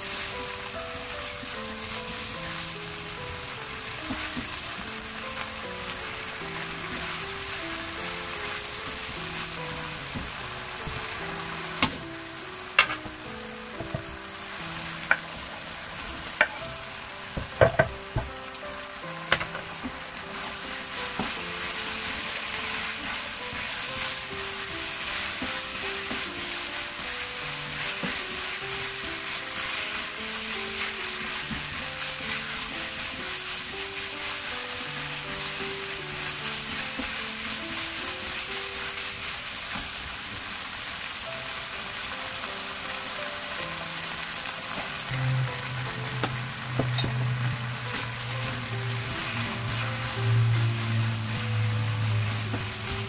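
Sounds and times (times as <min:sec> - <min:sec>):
food sizzling in a wok: 0:00.0 - 0:53.0
soft background music: 0:00.0 - 0:53.0.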